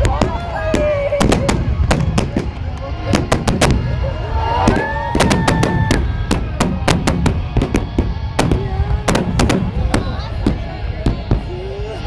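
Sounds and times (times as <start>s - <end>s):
fireworks bangs and cracks: 0.0s - 12.0s
low rumble: 0.0s - 12.0s.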